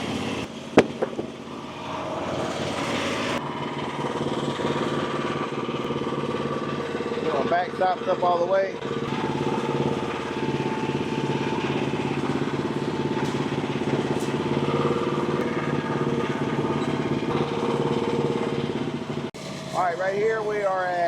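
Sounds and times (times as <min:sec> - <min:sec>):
sawmill engine running: 0:00.0 - 0:21.0.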